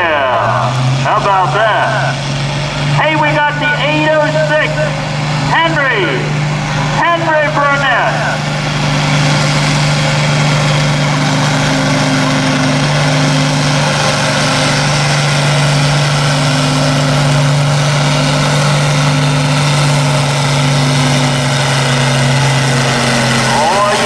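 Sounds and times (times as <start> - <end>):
diesel tractor engine under load: 0.0 - 24.0.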